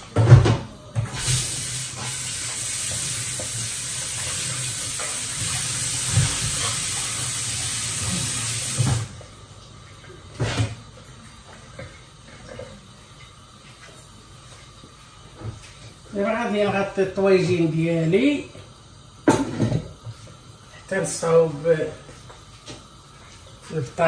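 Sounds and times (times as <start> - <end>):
tap water running: 0.0 - 24.0.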